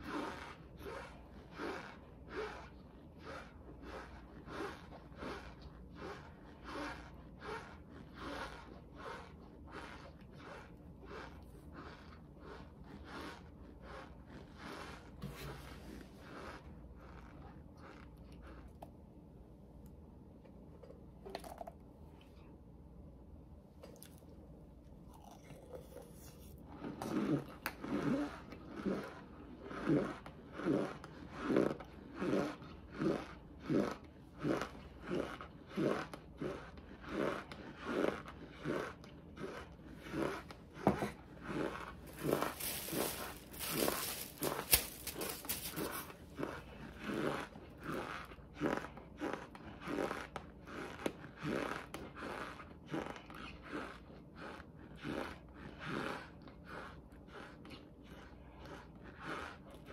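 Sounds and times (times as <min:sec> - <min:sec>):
chewing cornstarch: 0:00.0 - 0:22.5, 0:23.8 - 0:59.9.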